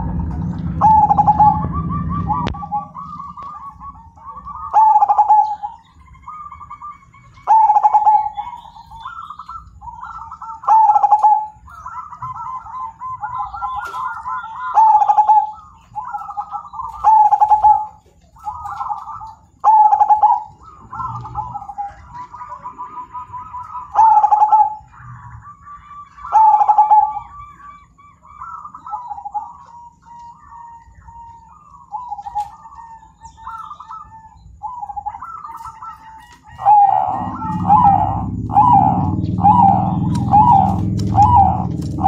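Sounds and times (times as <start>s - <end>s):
dove cooing: 0.0s - 42.0s.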